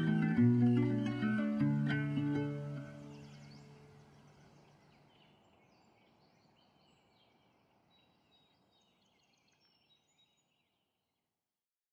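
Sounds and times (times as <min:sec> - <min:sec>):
faint birdsong chirps and trills: 0:00.0 - 0:11.2.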